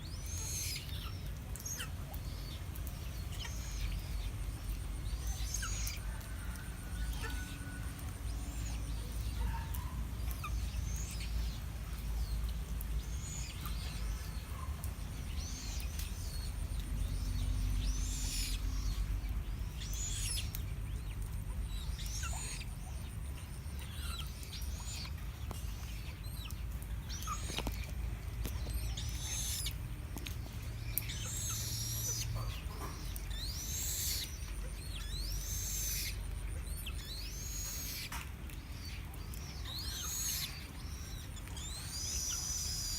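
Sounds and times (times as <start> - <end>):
low steady rumble: 0.0 - 42.9.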